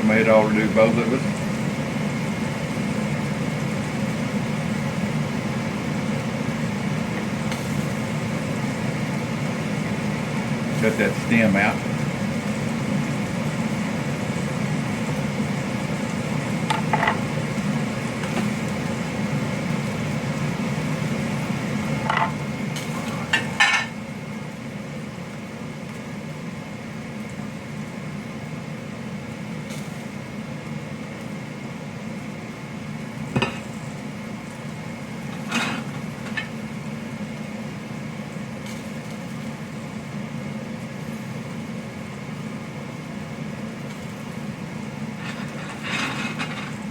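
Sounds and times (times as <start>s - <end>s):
kitchen appliance humming: 0.0s - 46.9s.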